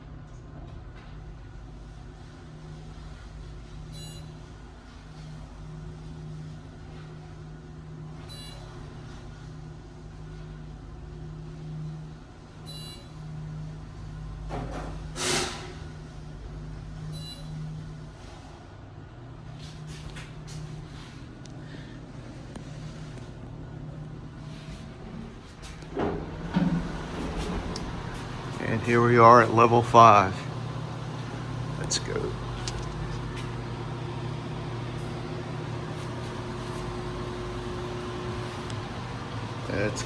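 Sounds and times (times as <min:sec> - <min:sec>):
hydraulic pump hum: 0:00.0 - 0:40.0.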